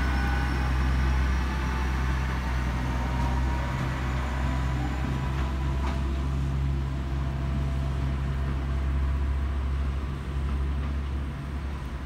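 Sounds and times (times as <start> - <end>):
train engine droning: 0.0 - 12.0.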